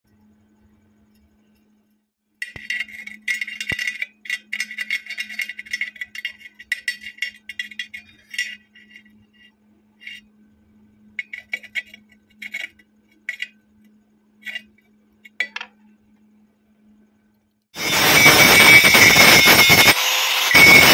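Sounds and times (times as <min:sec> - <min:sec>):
steady low hum: 0:00.1 - 0:17.7.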